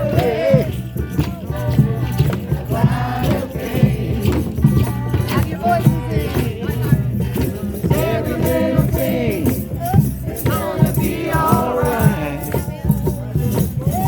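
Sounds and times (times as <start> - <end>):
drums played in rhythm: 0.0 - 14.0
group of people singing: 0.0 - 14.0.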